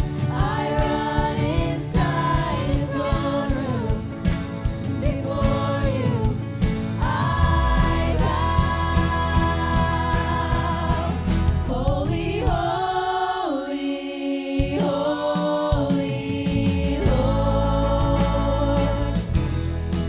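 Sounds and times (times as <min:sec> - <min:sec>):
worship band playing: 0:00.0 - 0:20.0.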